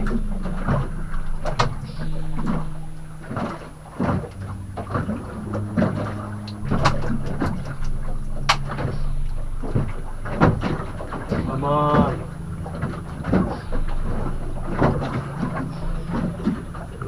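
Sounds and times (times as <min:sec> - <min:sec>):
boat knocks and clunks: 0:00.0 - 0:17.0
low motor hum: 0:00.0 - 0:17.0
water slapping hull: 0:00.0 - 0:17.0.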